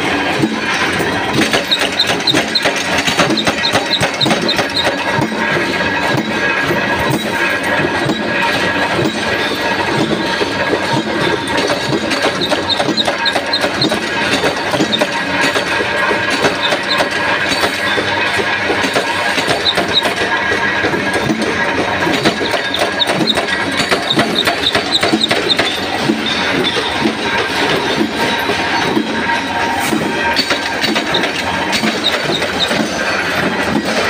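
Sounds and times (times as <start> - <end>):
punch press clattering: 0.1 - 34.0.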